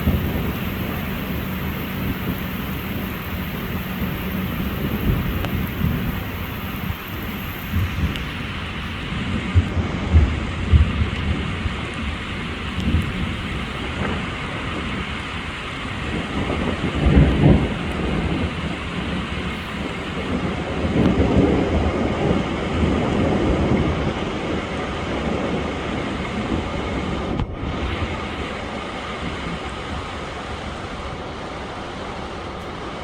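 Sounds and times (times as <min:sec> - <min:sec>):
low rumbles: 0:00.0 - 0:30.4
steady rain falling: 0:00.0 - 0:33.0.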